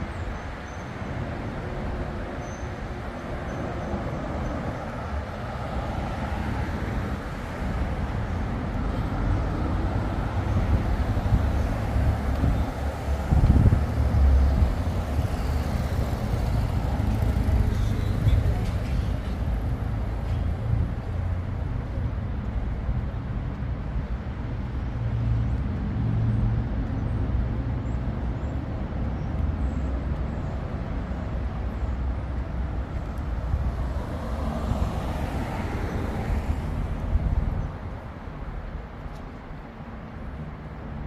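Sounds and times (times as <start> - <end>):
rumble of passing vehicles: 0.0 - 41.0.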